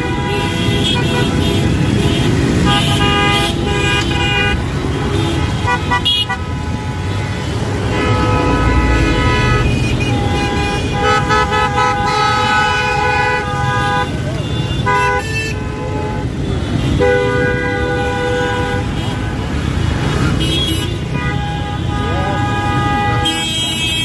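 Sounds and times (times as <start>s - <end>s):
car horns honking: 0.0s - 24.0s
traffic engines rumbling: 0.0s - 24.0s.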